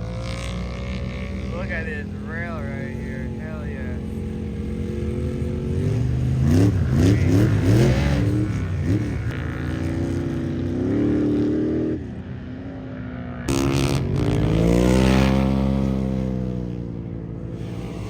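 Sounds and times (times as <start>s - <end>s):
engine revving: 0.0s - 12.2s, 13.1s - 18.0s.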